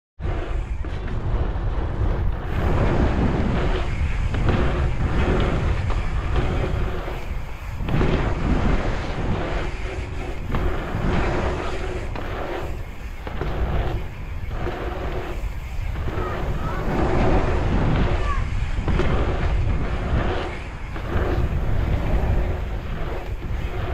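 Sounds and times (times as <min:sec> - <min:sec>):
tyres rumbling on asphalt: 0:00.2 - 0:23.9
wind on microphone: 0:00.2 - 0:23.9.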